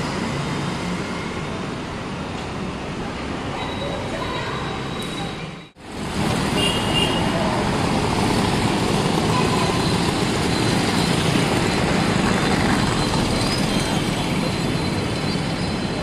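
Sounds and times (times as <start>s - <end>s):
road vehicle rumble and road noise: 0.0s - 16.0s.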